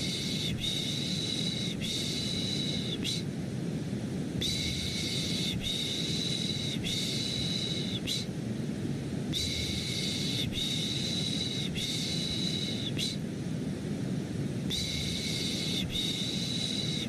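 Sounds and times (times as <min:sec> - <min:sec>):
low white noise rush: 0:00.0 - 0:17.0.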